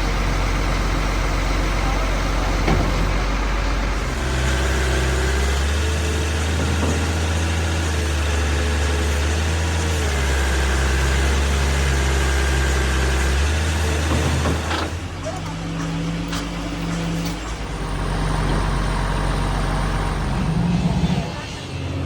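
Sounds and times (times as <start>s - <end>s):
large engine idling: 0.0s - 22.0s.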